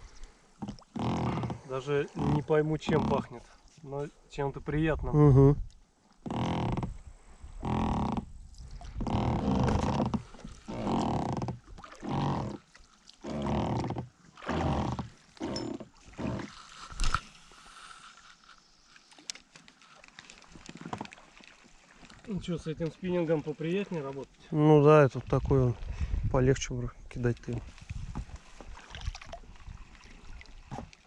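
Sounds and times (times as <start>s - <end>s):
oars creaking in oarlocks: 0.0s - 4.2s, 5.0s - 31.0s.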